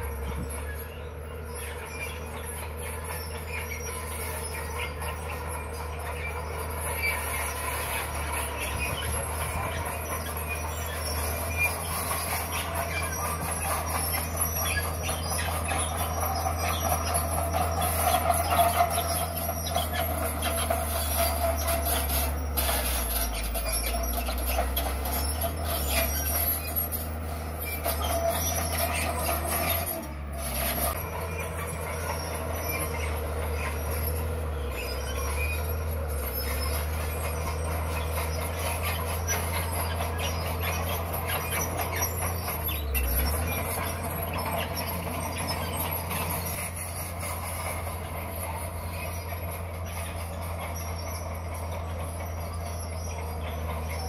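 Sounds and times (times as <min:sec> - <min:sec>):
bulldozer diesel engine: 0:00.0 - 0:54.0
steel tracks squealing and rattling: 0:00.0 - 0:54.0.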